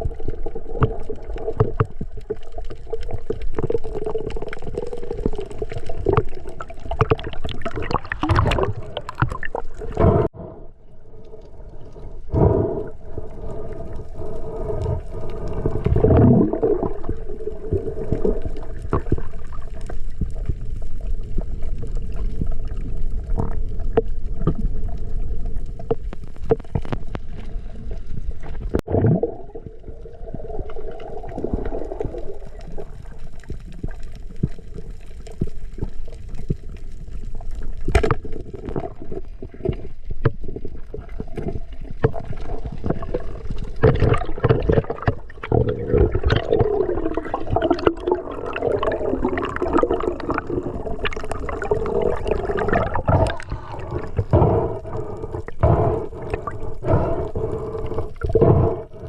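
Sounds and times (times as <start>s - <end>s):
underwater gurgling and bubbling: 0.0s - 59.0s.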